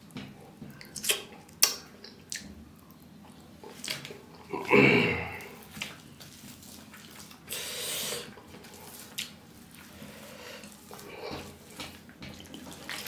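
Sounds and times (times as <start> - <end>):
hand squishing rice: 0.0 - 13.0.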